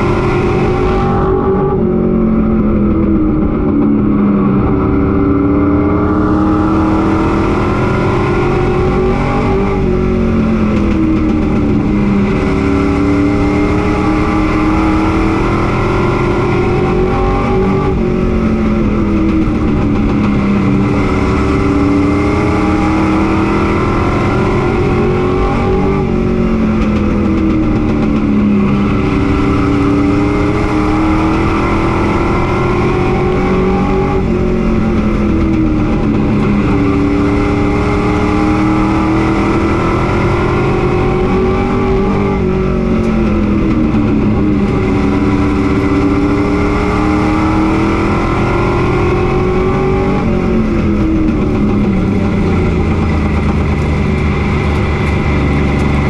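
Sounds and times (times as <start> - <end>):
race truck engine revving: 0.0 - 56.0.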